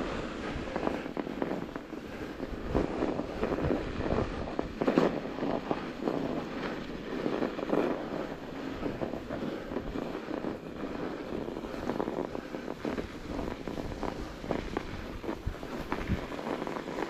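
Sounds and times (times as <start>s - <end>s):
bike tyres crunching over snow: 0.0s - 17.0s
wind on microphone: 0.0s - 17.0s.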